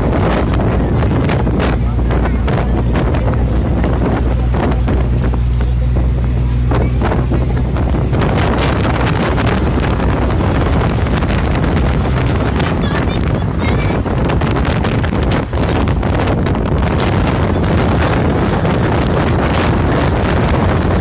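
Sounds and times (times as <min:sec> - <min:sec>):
bus engine drone: 0:00.0 - 0:21.0
wind on microphone: 0:00.0 - 0:21.0.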